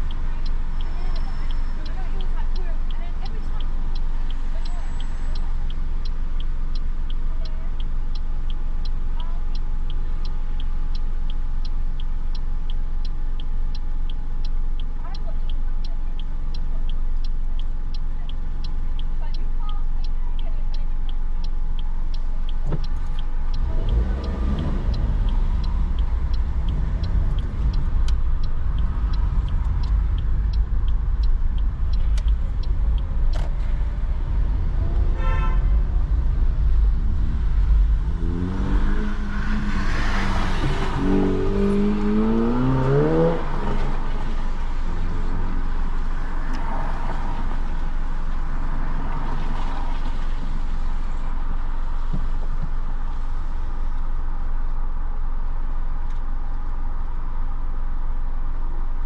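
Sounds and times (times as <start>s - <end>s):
car engine and tyre noise: 0.0s - 59.0s
car indicator ticking: 0.0s - 59.0s.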